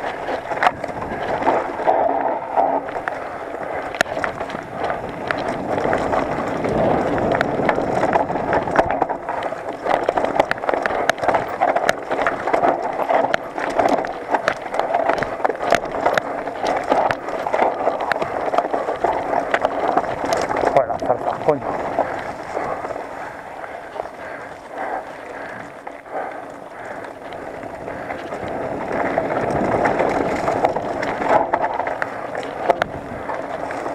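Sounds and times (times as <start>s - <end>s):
bike clicks and rattles: 0.0s - 33.9s
bike tyre rumble over dirt: 0.0s - 33.9s.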